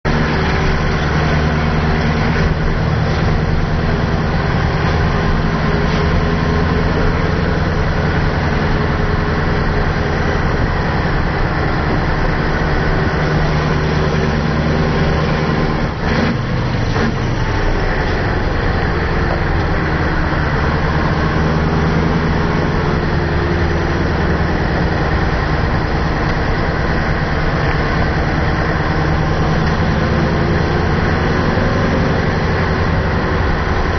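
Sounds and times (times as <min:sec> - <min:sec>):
truck diesel engine running: 0:00.0 - 0:33.9.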